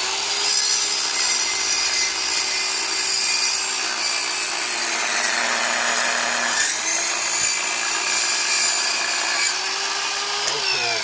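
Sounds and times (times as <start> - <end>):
circular saw cutting wood: 0.0 - 11.0.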